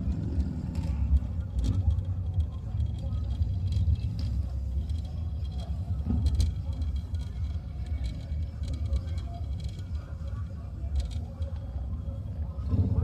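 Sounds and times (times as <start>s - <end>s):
car engines rumbling: 0.0s - 13.0s
faint clicks and ticks: 0.0s - 13.0s.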